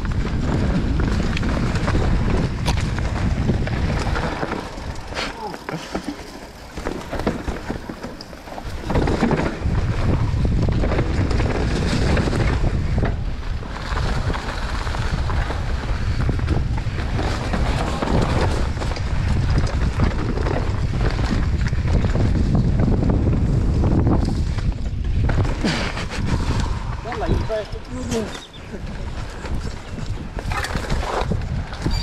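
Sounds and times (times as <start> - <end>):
bike tyres rumbling and rattling: 0.0 - 32.0
wind buffeting microphone: 0.0 - 32.0.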